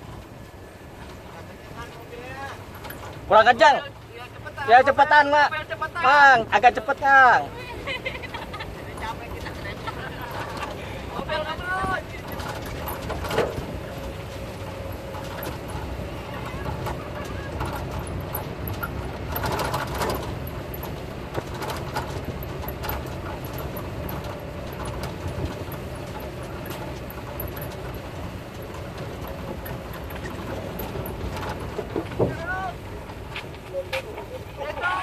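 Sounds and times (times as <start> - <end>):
road noise: 0.0 - 35.0
vehicle engine rumble: 0.0 - 35.0.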